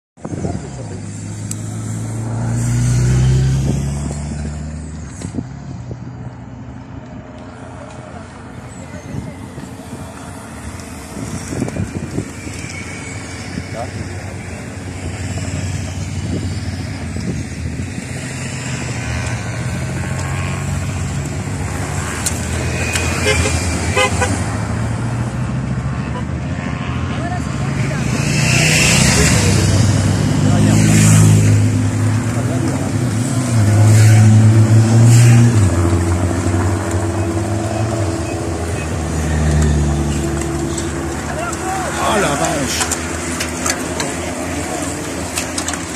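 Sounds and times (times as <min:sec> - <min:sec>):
low engine hum of vehicles: 0:00.2 - 0:45.9.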